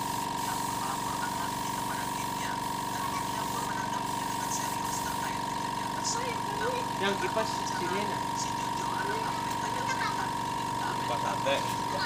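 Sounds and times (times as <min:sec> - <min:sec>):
spray painting motor humming: 0:00.0 - 0:12.0.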